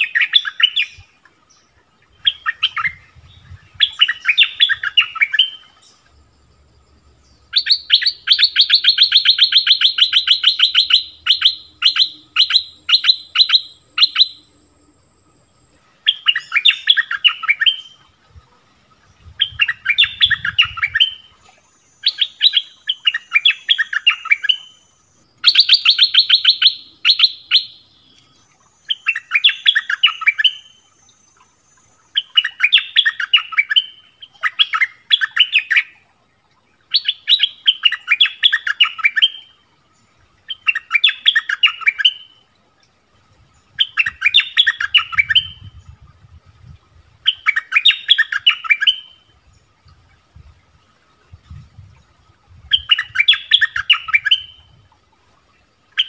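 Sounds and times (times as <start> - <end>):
bulbul song: 0.0 - 43.0, 43.6 - 50.5, 52.4 - 56.0.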